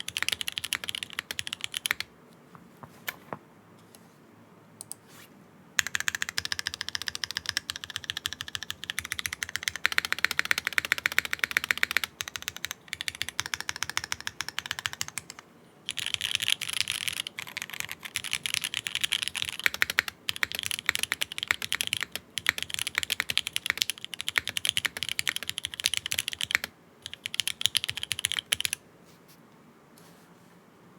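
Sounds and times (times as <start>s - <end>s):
fast typing on mechanical keyboard: 0.0s - 2.1s, 5.8s - 28.8s.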